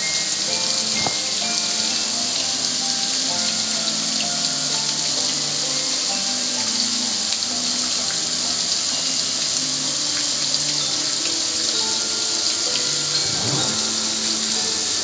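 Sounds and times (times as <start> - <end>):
hose spraying water on metal: 0.0 - 15.0.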